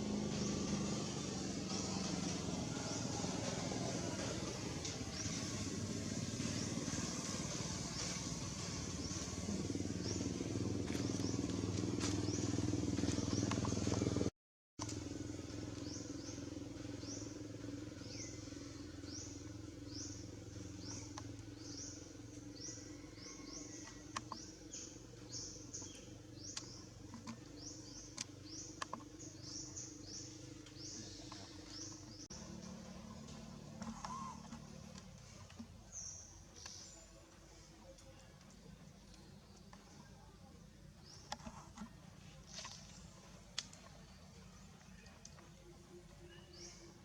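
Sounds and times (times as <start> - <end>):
low traffic hum: 0.0 - 47.0
vehicle engine running: 0.0 - 47.0.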